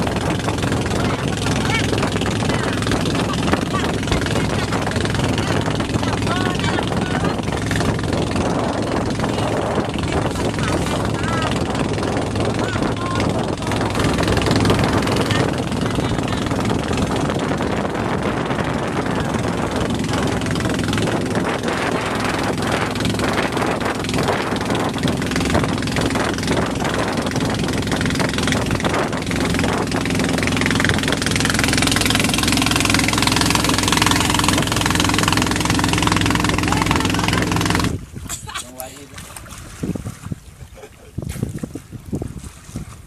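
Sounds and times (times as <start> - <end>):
boat engine chugging: 0.0 - 41.0
wind and water rushing: 0.0 - 43.0.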